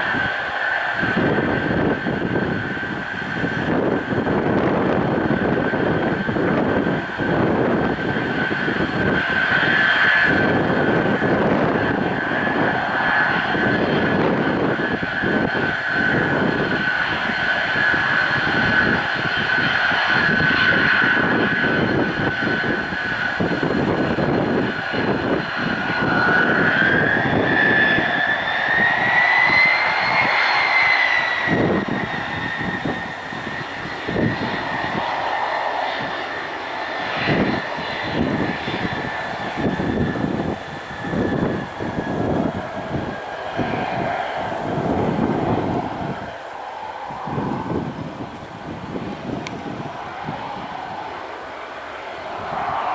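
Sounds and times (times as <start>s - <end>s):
gusty wind: 0.0s - 52.9s
jet engines whining: 0.0s - 52.9s.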